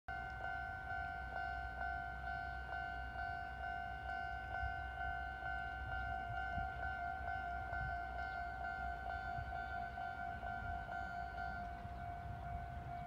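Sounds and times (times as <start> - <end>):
level crossing warning bell: 0.1 - 13.0.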